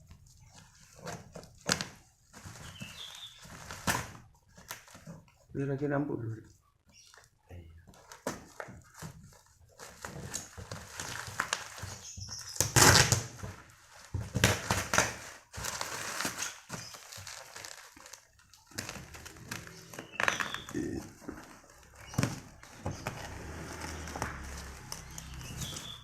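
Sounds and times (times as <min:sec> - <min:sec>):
packaging rustling and crinkling: 0:00.0 - 0:05.5, 0:06.9 - 0:26.0.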